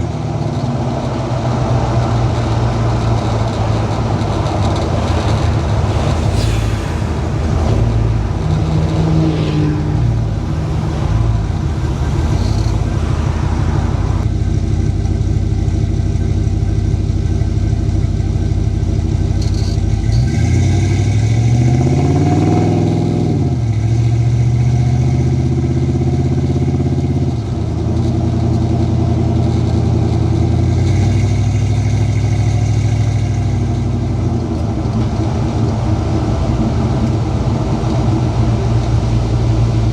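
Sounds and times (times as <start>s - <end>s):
engine at highway speed: 0.0s - 39.9s
rushing road noise: 0.0s - 39.9s.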